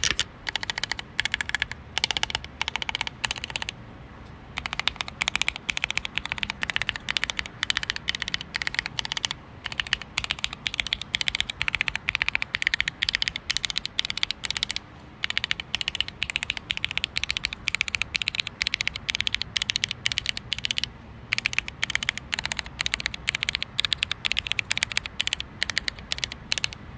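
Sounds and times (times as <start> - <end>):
fast keyboard typing: 0.0 - 3.8, 4.6 - 26.9.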